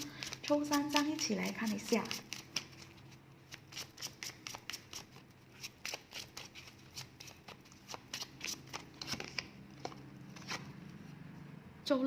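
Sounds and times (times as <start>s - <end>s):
paper cards clicking and flicking: 0.0s - 10.7s.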